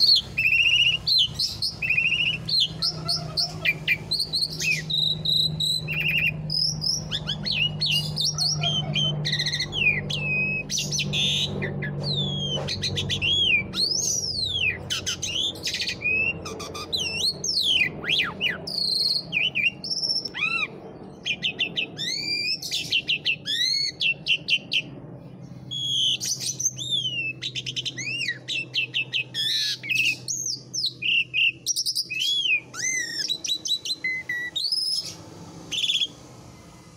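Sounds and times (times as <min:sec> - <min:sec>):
starling singing: 0:00.0 - 0:24.9, 0:25.7 - 0:36.2.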